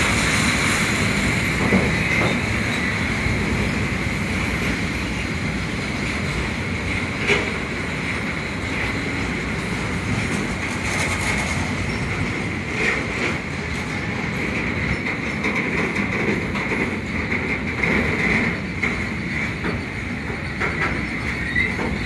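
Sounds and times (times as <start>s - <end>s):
train wagons rumbling past: 0.0s - 22.0s
wheels clacking over rail joints: 0.0s - 22.0s.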